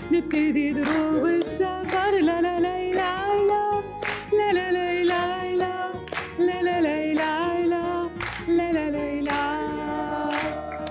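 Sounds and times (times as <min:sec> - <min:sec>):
musical accompaniment: 0:00.0 - 0:10.9
woman singing: 0:00.0 - 0:10.9.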